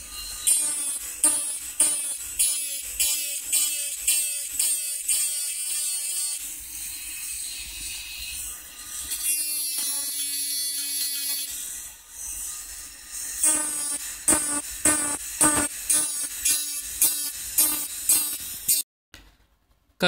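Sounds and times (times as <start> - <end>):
rotary engraving tool whining: 0.0 - 18.8.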